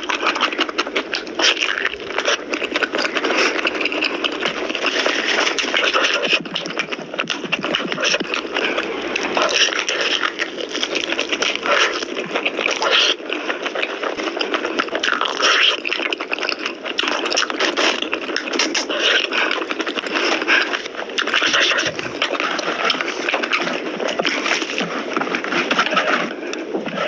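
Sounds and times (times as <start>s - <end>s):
small clicks and crackles: 0.0s - 27.0s
wet chewing: 0.0s - 27.0s.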